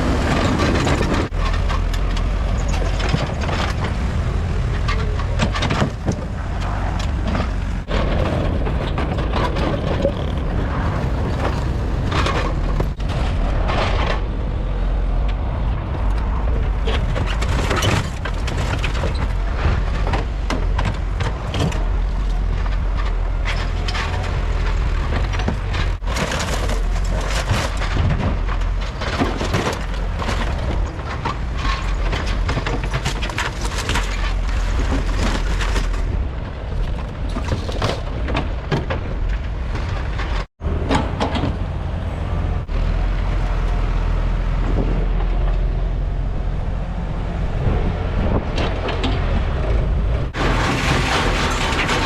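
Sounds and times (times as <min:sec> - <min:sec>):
debris knocking and crunching: 0:00.0 - 0:52.0
diesel equipment running: 0:00.0 - 0:52.0.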